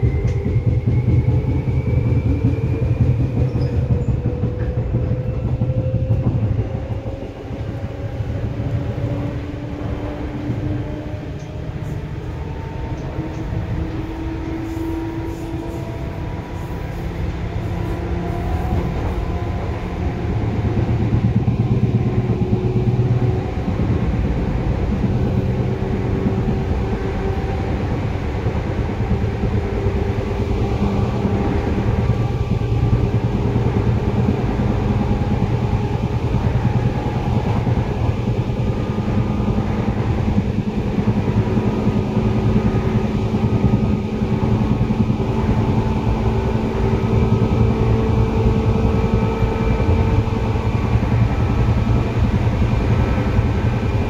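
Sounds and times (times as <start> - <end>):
electric train wheel and motor rumble: 0.0 - 54.0.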